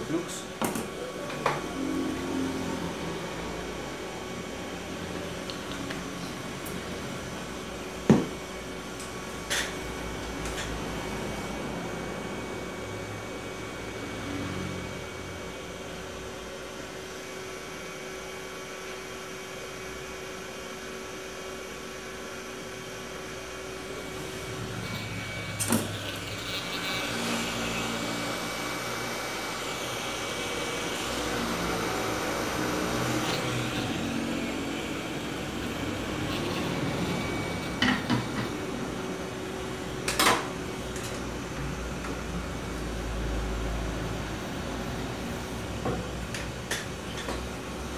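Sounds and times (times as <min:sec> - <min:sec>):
hot air blower hissing: 0:00.0 - 0:43.3.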